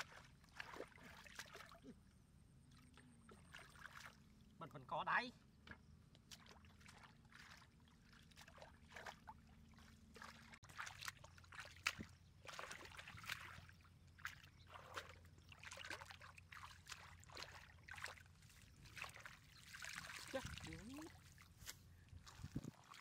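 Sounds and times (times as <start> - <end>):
hands sloshing in muddy water: 0.0 - 4.7, 5.6 - 23.0.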